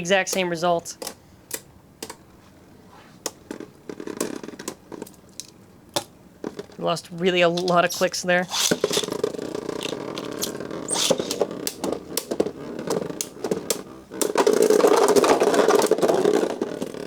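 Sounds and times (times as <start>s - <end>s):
spinning tops whirring: 0.0s - 17.0s
spinning tops clashing clicks: 3.2s - 16.9s.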